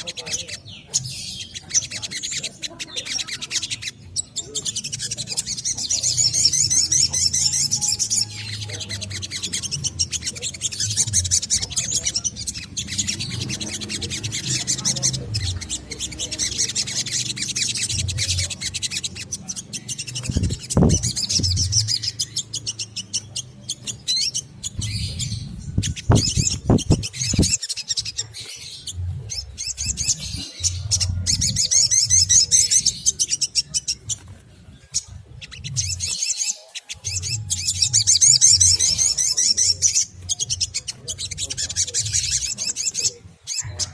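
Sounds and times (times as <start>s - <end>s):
bird twittering trills: 0.0s - 43.9s.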